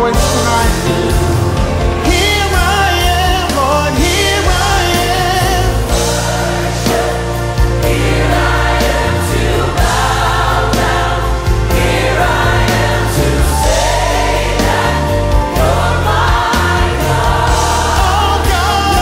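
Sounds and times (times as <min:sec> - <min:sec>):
band accompaniment: 0:00.0 - 0:19.0
gospel choir singing: 0:00.0 - 0:19.0
sustained bass: 0:00.0 - 0:19.0.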